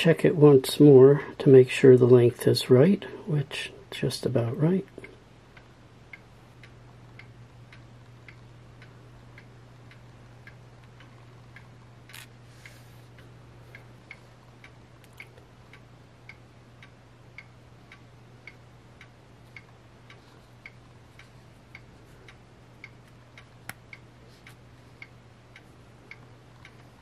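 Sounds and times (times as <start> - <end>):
faint steady ticking: 0.0 - 27.0
low steady hum: 0.0 - 27.0.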